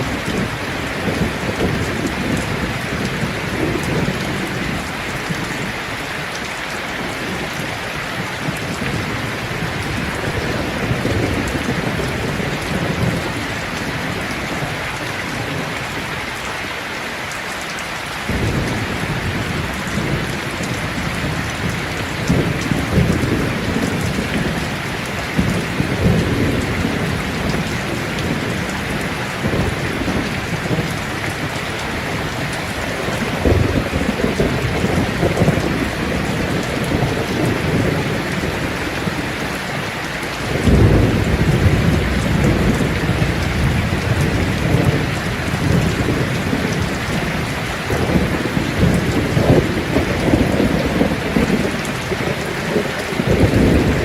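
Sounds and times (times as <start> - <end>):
thunder rumbling: 0.0 - 6.0, 7.0 - 16.2, 18.2 - 54.0
steady rain: 0.0 - 54.0.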